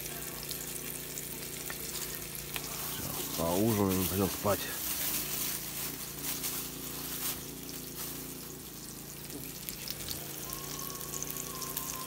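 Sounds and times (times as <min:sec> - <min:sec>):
fish sizzling in oil: 0:00.0 - 0:12.0
low steady hum: 0:00.0 - 0:12.0.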